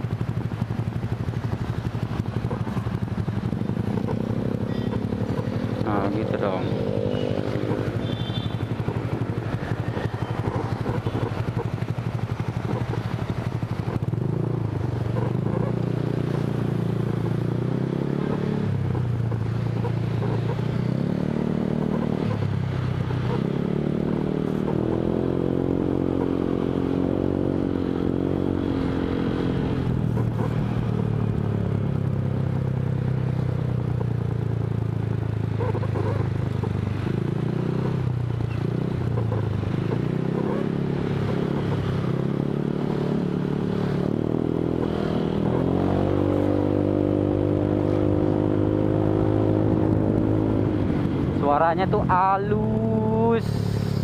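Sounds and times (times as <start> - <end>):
scooter engine revving: 0.0 - 54.0.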